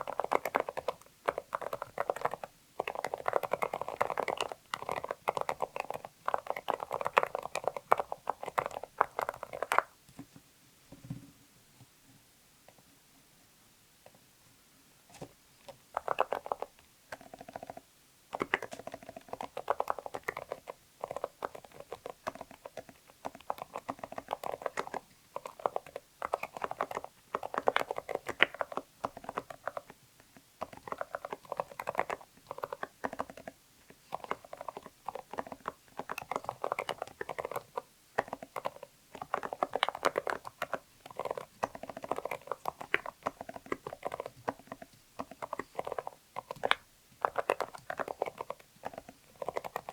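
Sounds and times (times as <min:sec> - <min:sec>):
typing on mechanical keyboard: 0:00.0 - 0:10.0, 0:15.6 - 0:17.8, 0:18.4 - 0:49.9.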